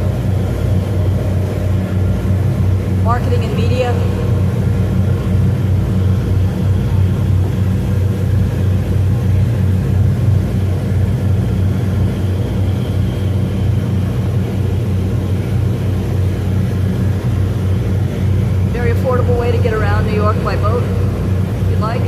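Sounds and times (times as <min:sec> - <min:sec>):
constant rushing noise: 0:00.0 - 0:22.0
ship engines droning: 0:00.0 - 0:22.0.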